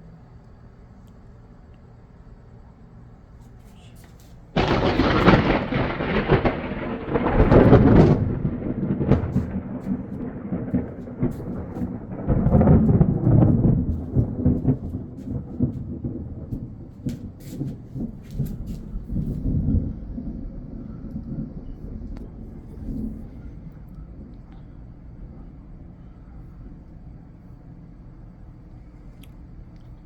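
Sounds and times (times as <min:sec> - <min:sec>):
thunderclap crackling: 0:03.8 - 0:30.0
thunder rumbling: 0:04.5 - 0:30.0.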